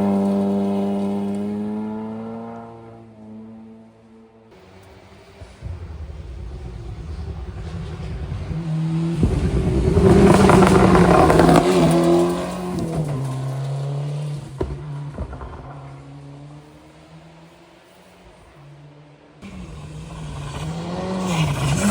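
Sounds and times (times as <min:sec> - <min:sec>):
rally car engine passing by: 0:00.0 - 0:21.9.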